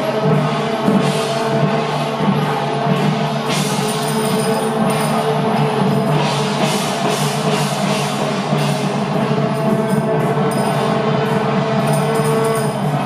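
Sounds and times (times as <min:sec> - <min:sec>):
crashing cymbals: 0:00.0 - 0:13.0
hand drums: 0:00.0 - 0:13.0.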